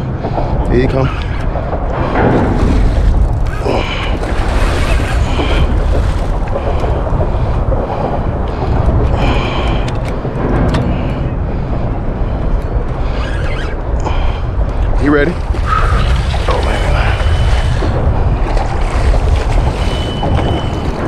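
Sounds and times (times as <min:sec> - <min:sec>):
water noise: 0:00.0 - 0:21.0
wind buffeting microphone: 0:00.0 - 0:21.0.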